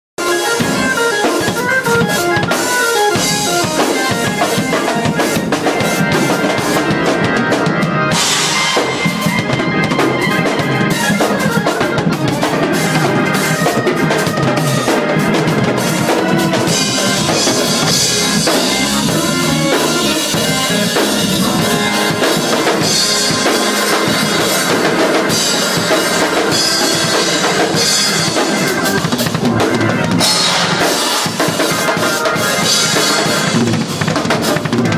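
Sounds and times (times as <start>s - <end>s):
drums played fast: 0.2s - 34.9s.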